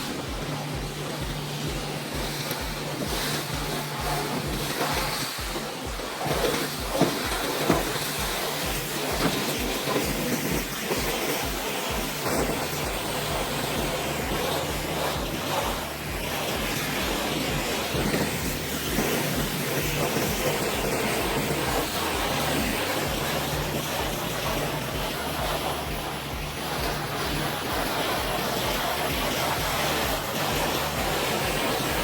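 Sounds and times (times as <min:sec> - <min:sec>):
loud rushing noise: 0:00.0 - 0:32.0
low pulsing rumble: 0:00.0 - 0:32.0.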